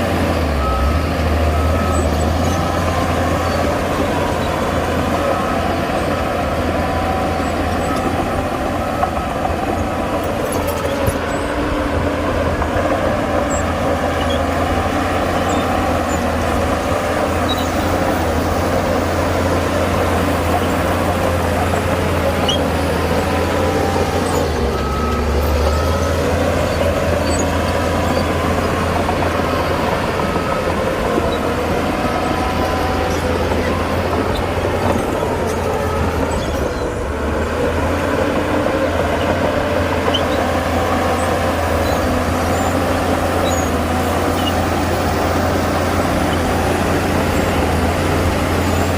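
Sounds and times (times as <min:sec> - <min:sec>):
heavy diesel machinery drone: 0:00.0 - 0:48.9.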